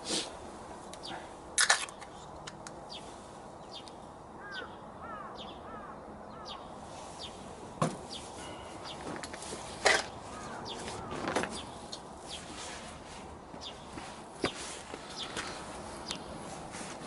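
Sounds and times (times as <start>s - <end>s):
outdoor background noise: 0.0s - 17.0s
small birds chirping: 0.8s - 1.4s, 2.0s - 16.8s.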